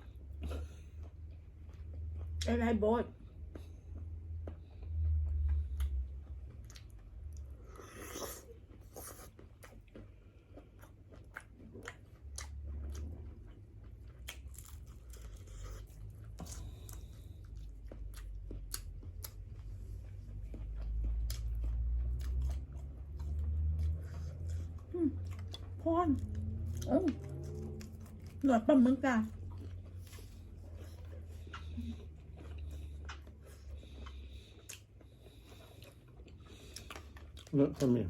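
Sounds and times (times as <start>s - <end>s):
low steady hum: 0.0s - 38.0s
crunchy chewing and biting: 3.4s - 38.0s.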